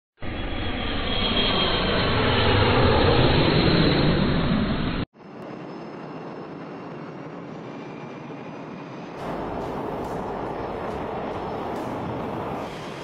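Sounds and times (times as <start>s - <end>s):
jet engine whine: 0.2s - 13.0s
loud jet engine roar: 0.2s - 13.0s.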